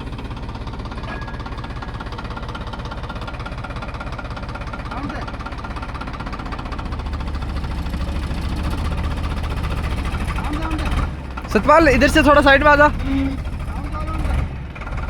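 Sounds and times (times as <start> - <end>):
tractor diesel engine knocking: 0.0 - 15.0.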